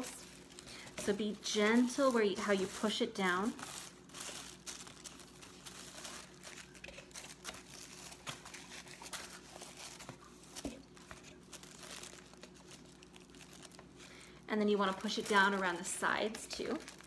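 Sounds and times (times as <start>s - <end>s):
tissue paper crinkling: 0.0s - 17.0s.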